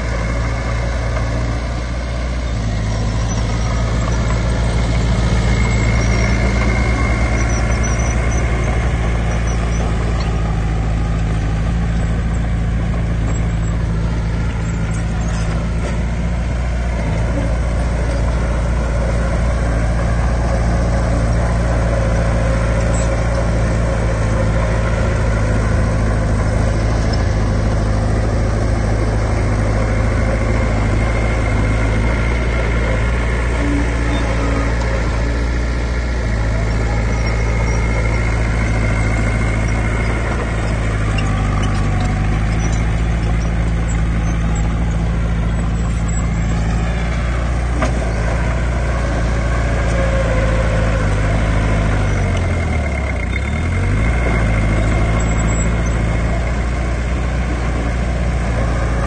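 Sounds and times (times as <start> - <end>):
heavy diesel machinery drone: 0.0 - 59.0.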